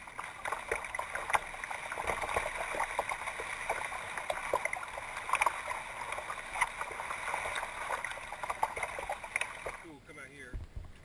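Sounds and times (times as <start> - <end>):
paddle splashes and drips: 0.0 - 10.0
water lapping at hull: 0.0 - 11.0.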